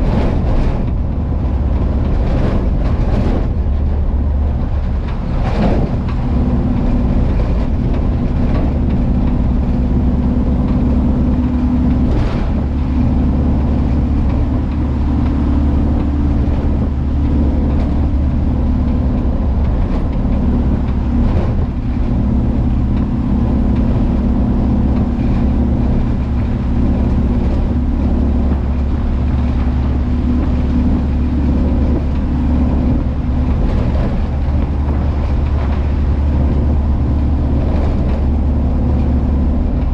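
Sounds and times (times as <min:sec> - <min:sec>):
van engine droning: 0:00.0 - 0:39.9.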